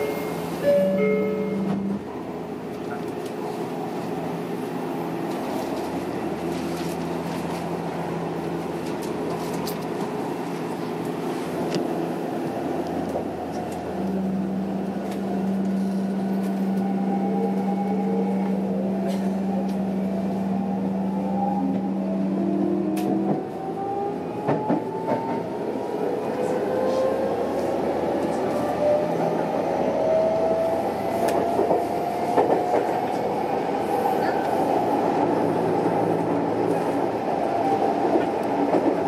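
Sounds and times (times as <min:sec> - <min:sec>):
electric train hum: 0:00.0 - 0:39.0.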